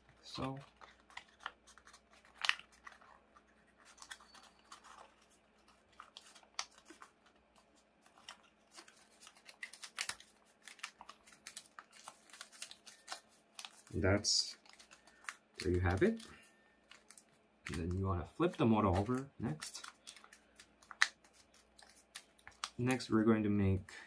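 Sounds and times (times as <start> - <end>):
paper crinkling and crackling: 0.0 - 23.4.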